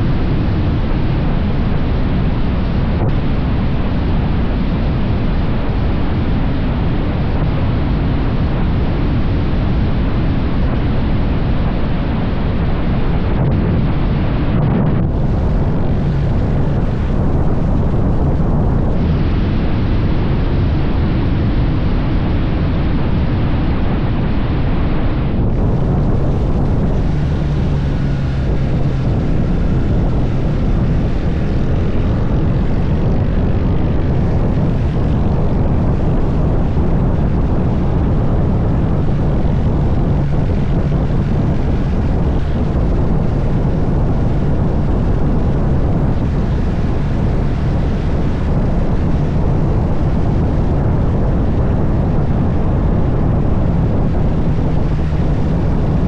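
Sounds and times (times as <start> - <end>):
motorcycle engine drone: 0.0 - 56.0
wind and road noise: 0.0 - 56.0.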